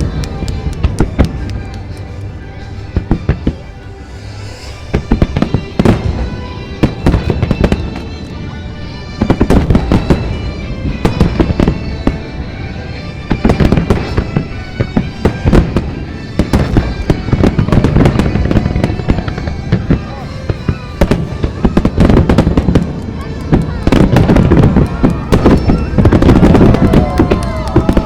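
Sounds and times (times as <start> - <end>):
music: 0.0 - 28.0.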